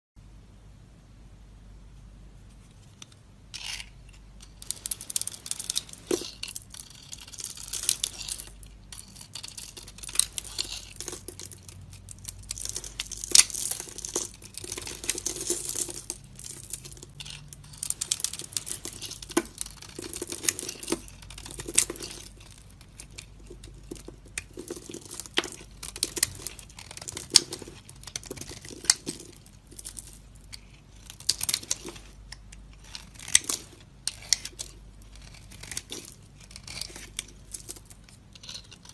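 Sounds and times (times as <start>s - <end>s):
knife scraping soap: 3.0s - 38.9s
soap cracking: 3.6s - 38.9s.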